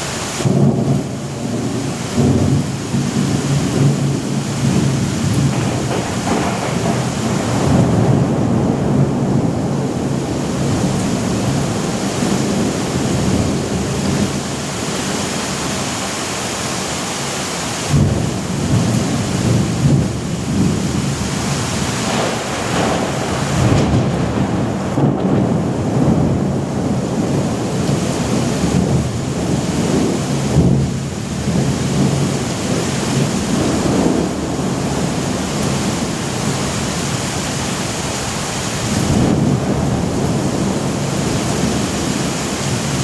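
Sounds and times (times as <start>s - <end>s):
steady rain: 0.0s - 43.0s
thunderclap: 0.4s - 14.9s, 17.9s - 43.0s
rolling thunder: 0.4s - 15.6s, 17.9s - 43.0s.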